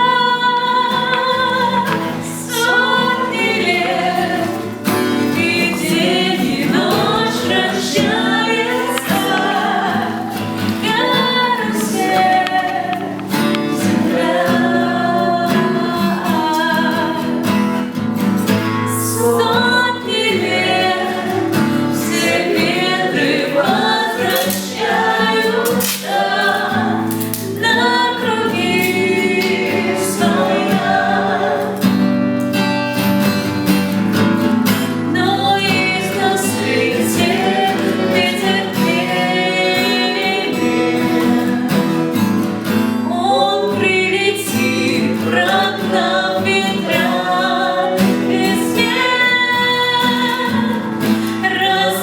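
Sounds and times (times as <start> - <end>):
people singing: 0.0 - 52.0
strummed acoustic guitar: 0.0 - 52.0.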